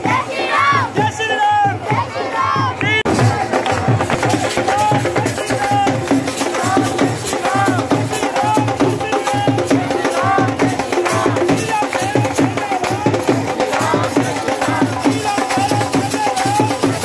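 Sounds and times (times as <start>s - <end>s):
fast drum beat: 0.0s - 17.0s.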